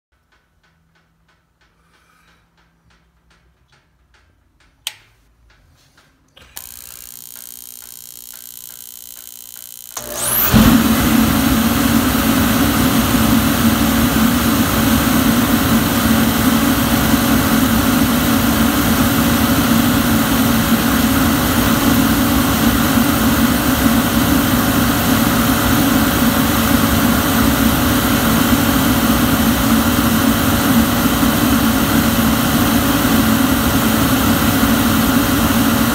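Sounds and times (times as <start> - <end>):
heater humming and ticking: 0.2 - 35.9
heater flame and fan rushing: 6.6 - 35.9.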